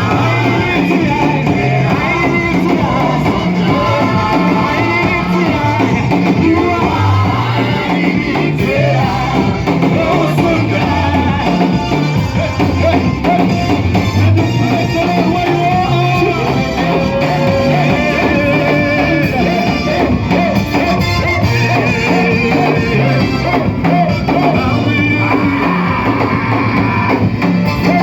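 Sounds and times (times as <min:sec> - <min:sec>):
bass line: 0:00.0 - 0:28.0
drums: 0:00.0 - 0:28.0
live band playing praise music: 0:00.0 - 0:28.0
voices singing: 0:00.0 - 0:28.0.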